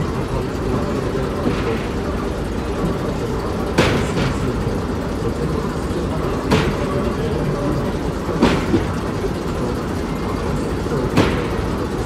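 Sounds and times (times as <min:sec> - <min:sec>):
locomotive rumbling: 0:00.0 - 0:12.0.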